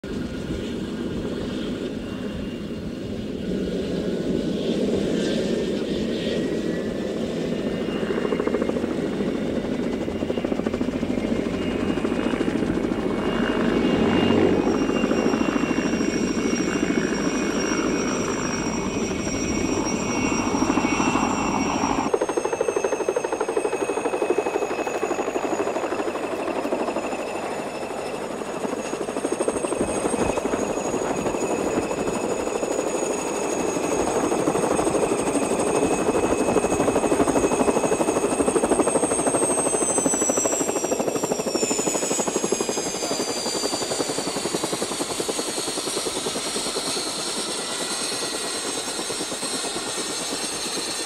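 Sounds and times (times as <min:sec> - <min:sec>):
helicopter rotor beat: 0:00.0 - 0:51.0
high turbine whine: 0:00.1 - 0:51.0.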